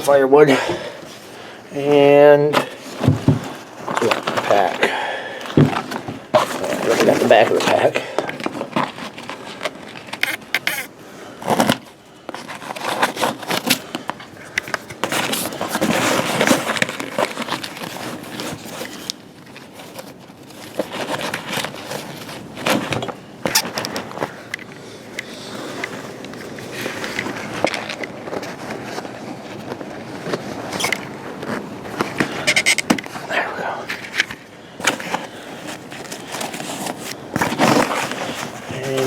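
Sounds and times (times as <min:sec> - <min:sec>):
backpack rustling and scraping: 0:00.0 - 0:39.0.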